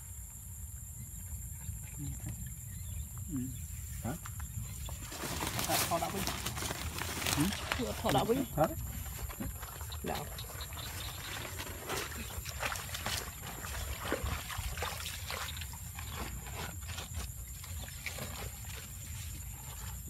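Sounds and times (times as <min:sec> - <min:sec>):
wet rustles and squelches of mud: 0:01.8 - 0:20.0.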